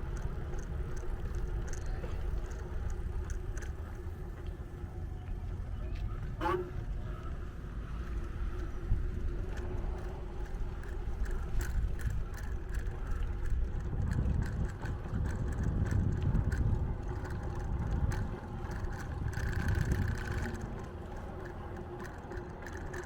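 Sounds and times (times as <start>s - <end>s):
light ticks and rattles: 0.0s - 23.0s
wind and road rumble: 0.0s - 23.0s.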